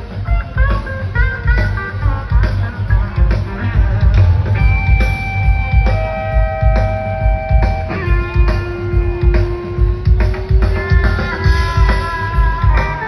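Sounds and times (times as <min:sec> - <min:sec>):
drum kit beat: 0:00.0 - 0:13.0
electric lead guitar: 0:00.0 - 0:13.0.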